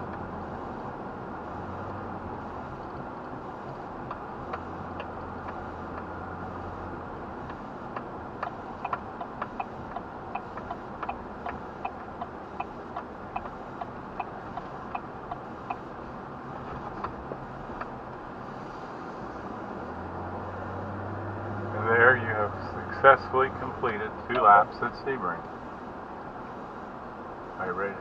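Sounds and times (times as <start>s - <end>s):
turn signal clicking: 0.0s - 18.4s, 19.4s - 27.0s
low truck hum: 0.0s - 28.0s.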